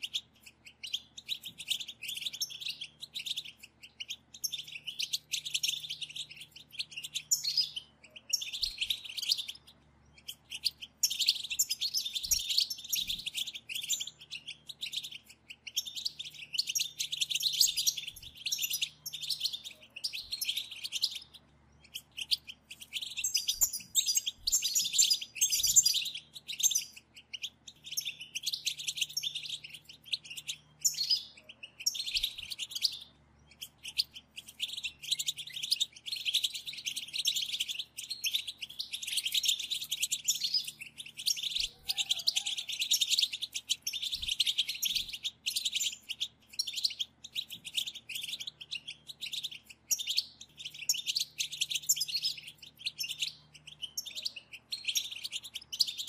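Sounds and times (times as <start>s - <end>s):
goldfinches chattering and twittering: 0.0s - 56.0s.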